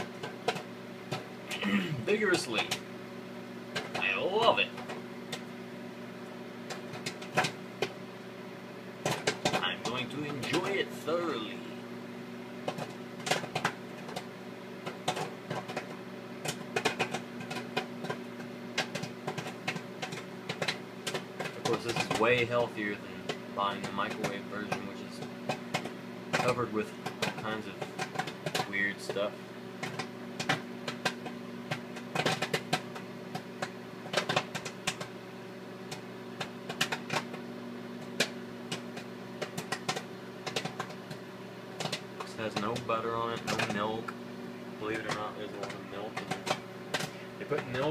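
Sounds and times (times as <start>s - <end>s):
microwave oven hum: 0.0s - 47.9s
popcorn popping: 0.0s - 47.9s.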